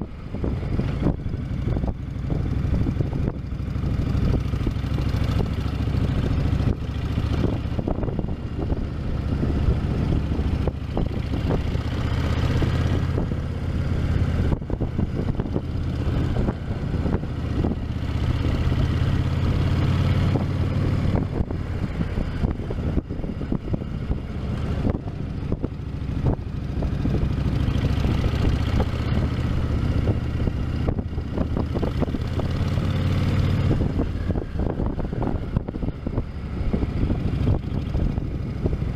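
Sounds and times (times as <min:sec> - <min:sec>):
motorcycle engine rumble: 0:00.0 - 0:38.9.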